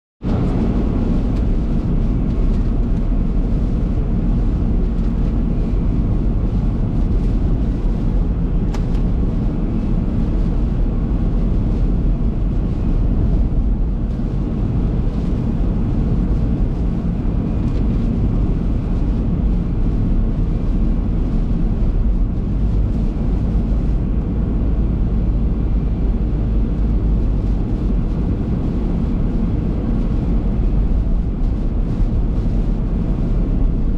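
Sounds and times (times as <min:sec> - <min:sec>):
car road and engine rumble: 0:00.2 - 0:33.9.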